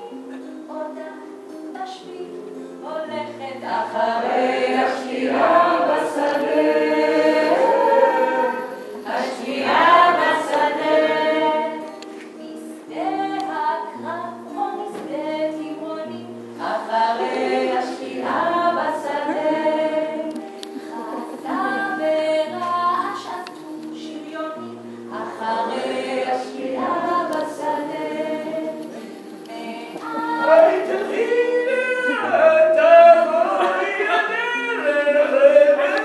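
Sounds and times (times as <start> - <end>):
woman singing into microphone: 0.0 - 6.8, 7.4 - 31.6
strummed acoustic guitar: 0.0 - 36.0
voices singing along: 2.9 - 36.0.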